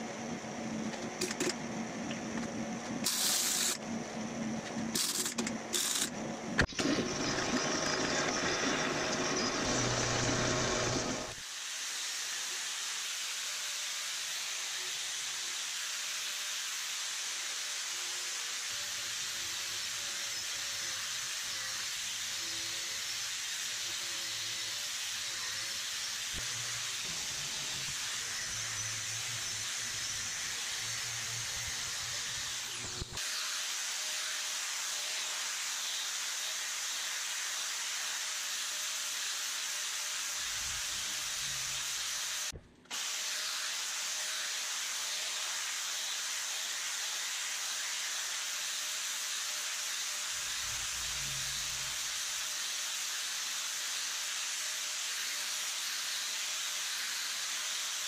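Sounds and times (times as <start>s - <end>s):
angle grinder grinding steel: 3.0s - 3.8s, 5.0s - 11.4s, 18.0s - 58.0s.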